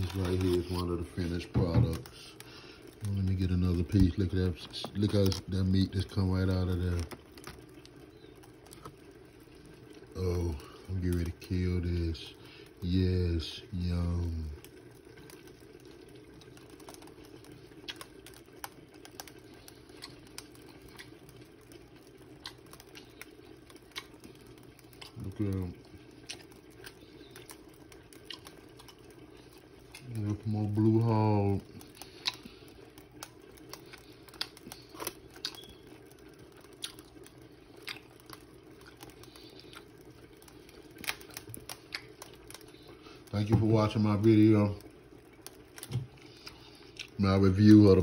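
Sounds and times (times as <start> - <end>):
small clicks and crackles: 0.0 - 48.0
steady low hum: 0.0 - 48.0.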